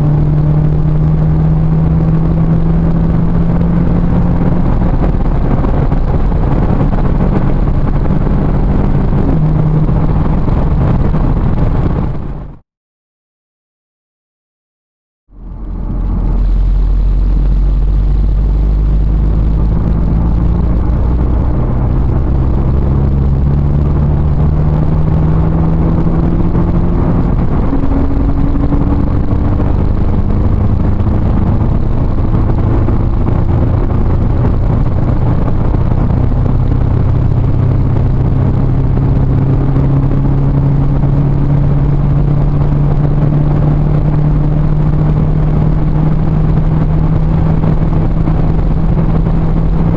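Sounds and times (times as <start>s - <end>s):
car engine pulling hard: 0.0s - 12.6s, 15.3s - 49.9s
road and wind noise: 0.0s - 12.6s, 15.3s - 49.9s.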